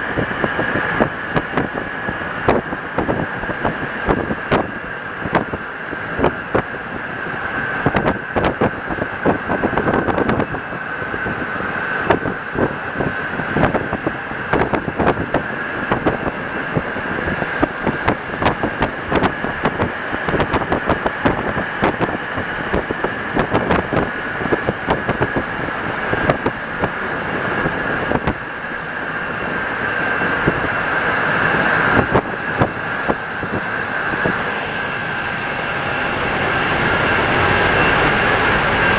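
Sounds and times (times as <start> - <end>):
metro train running: 0.0 - 38.9.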